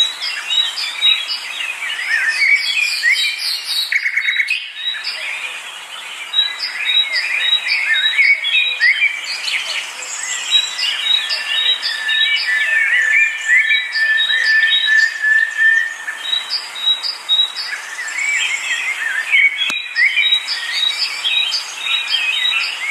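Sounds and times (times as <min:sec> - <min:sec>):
birds chirping and singing: 0:00.0 - 0:22.9.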